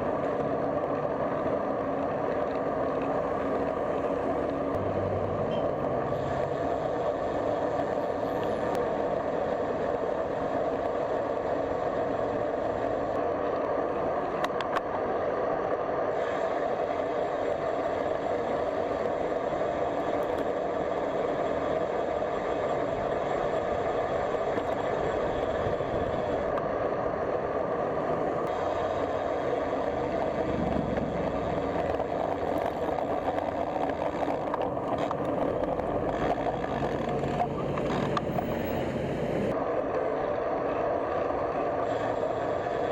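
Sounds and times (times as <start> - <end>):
road traffic noise: 0.0 - 42.9.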